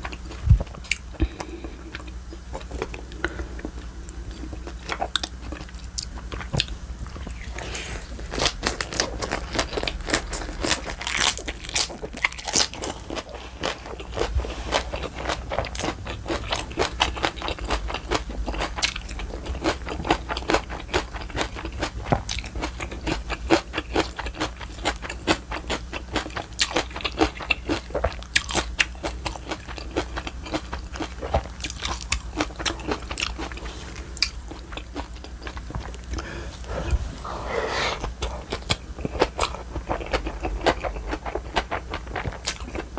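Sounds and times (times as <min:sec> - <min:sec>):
wet chewing and crunching: 0:00.0 - 0:37.0, 0:38.0 - 0:42.9.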